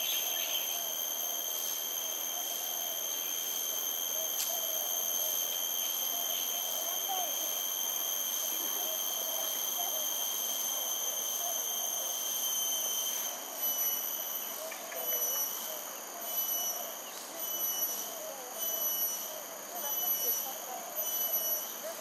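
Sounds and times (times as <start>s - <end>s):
faint wavering murmur: 0.0s - 22.0s
high-pitched insect drone: 0.0s - 22.0s.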